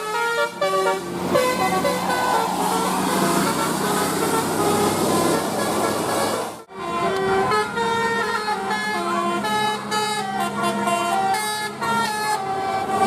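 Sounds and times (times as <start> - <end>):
multi-tone air horns playing tune: 0.0 - 13.0.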